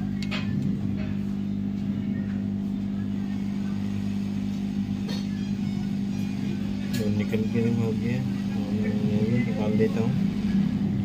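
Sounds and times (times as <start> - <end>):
hot-air blower hum: 0.0 - 11.0.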